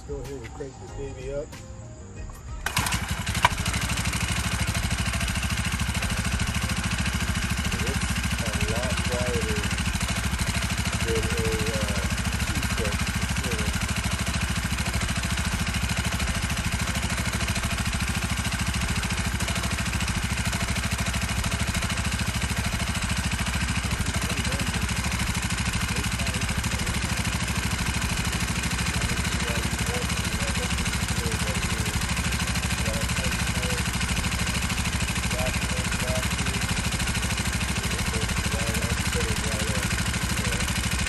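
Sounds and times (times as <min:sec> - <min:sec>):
small engine idling: 0:00.0 - 0:41.0.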